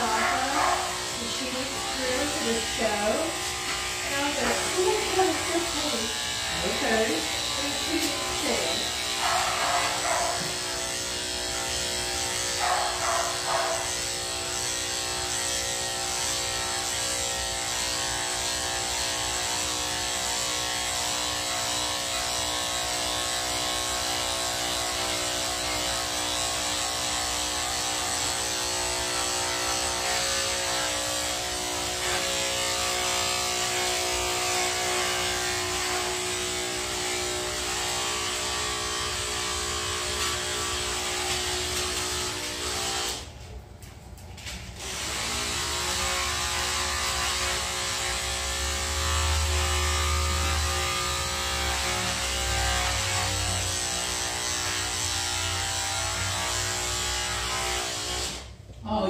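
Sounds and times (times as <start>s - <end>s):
electric hair clippers humming: 0.0s - 59.0s.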